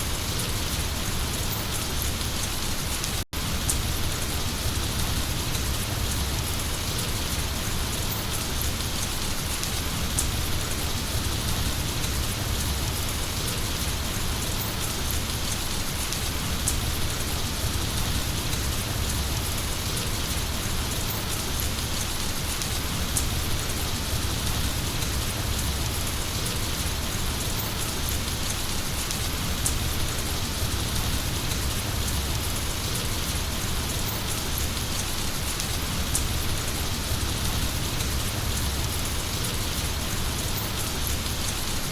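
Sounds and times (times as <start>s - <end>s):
heavy rain hissing: 0.0s - 41.9s
sharp raindrop ticks: 0.1s - 41.9s.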